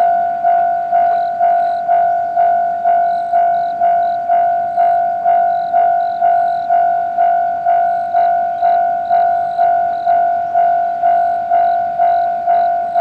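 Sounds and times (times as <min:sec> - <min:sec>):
level crossing bell clanging: 0:00.0 - 0:13.0.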